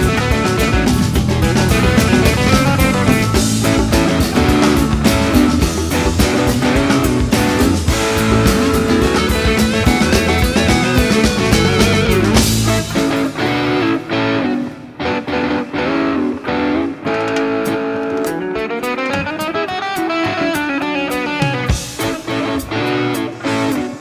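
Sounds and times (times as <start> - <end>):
guitar music with drum beat: 0.0 - 24.0.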